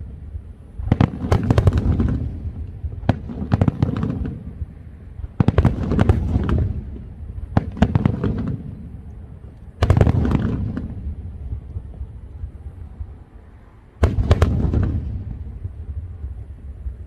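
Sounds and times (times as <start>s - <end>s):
fireworks bangs and crackles: 0.0s - 13.2s, 14.0s - 17.0s
low fireworks rumble: 0.0s - 17.0s.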